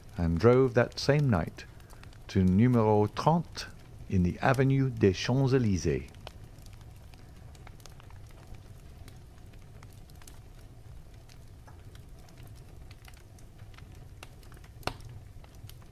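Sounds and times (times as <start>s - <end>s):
faint clicks and ticks: 0.0s - 15.9s
low steady hum: 0.0s - 15.9s.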